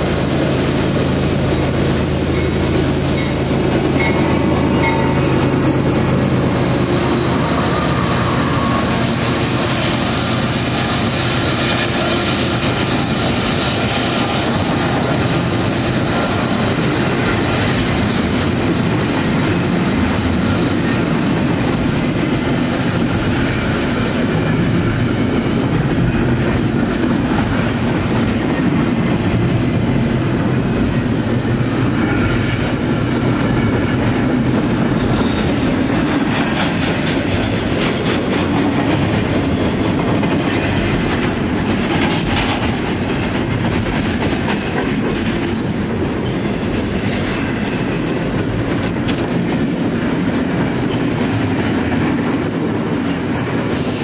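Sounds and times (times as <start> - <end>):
diesel locomotive engines: 0.0 - 54.0
train wheels rolling on rails: 0.0 - 54.0.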